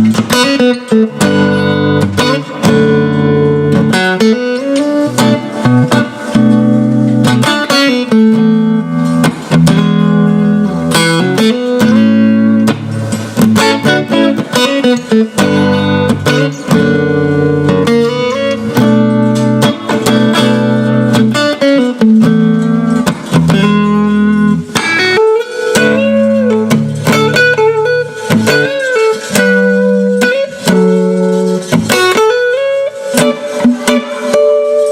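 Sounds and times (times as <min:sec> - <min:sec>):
electric guitar chords and notes: 0:00.0 - 0:34.9.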